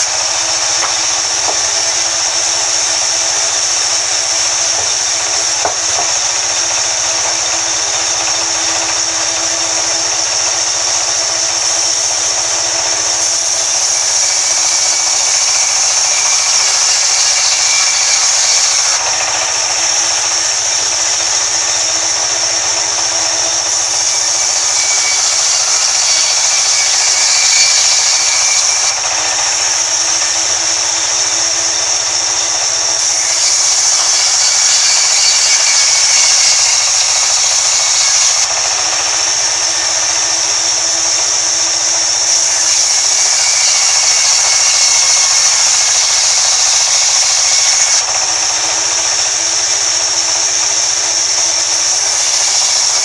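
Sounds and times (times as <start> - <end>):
band saw ripping timber: 0.0 - 53.0.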